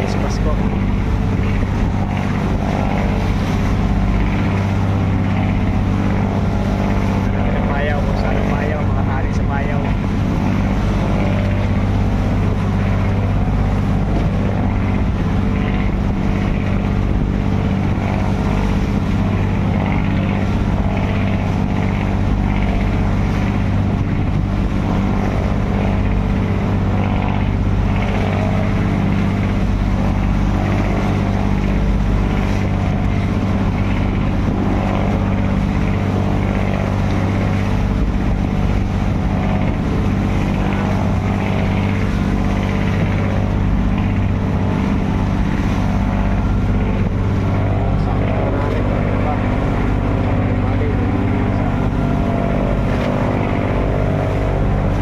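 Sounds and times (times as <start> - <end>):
boat engine low drone: 0.0 - 55.0.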